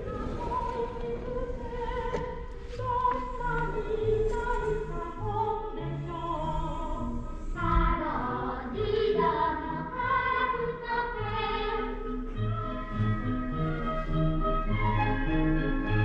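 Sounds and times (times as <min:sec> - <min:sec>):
classical-style music: 0:00.0 - 0:16.0.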